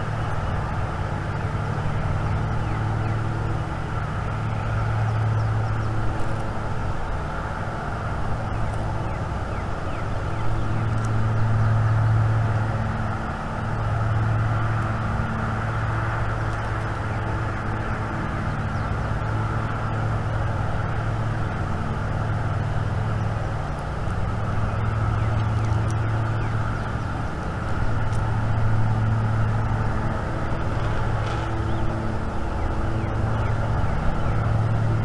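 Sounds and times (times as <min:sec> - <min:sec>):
distant engine hum: 0:00.0 - 0:35.0.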